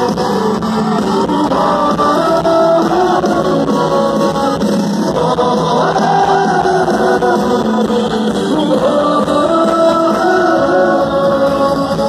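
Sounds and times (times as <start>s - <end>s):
live pop band with singing: 0.0s - 12.0s.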